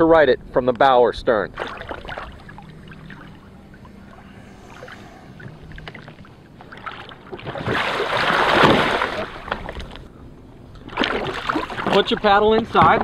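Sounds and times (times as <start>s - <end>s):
kayak hull slapping water: 1.5s - 10.0s, 10.8s - 13.0s
water lapping: 1.5s - 10.1s, 10.7s - 13.0s.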